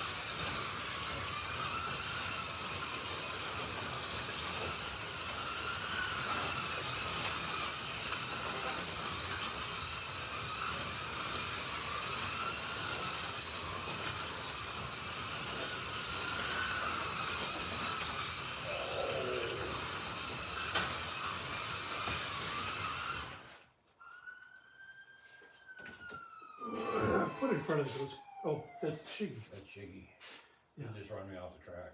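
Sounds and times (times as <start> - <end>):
slot car motors whining: 0.0 - 25.1, 25.8 - 29.0.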